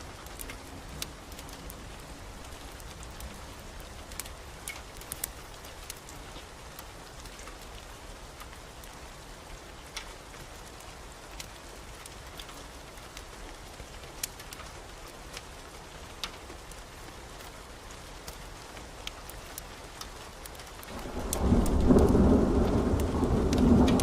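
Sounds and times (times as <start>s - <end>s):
fire crackling and popping: 0.0s - 24.0s
steady rain falling: 0.0s - 24.0s.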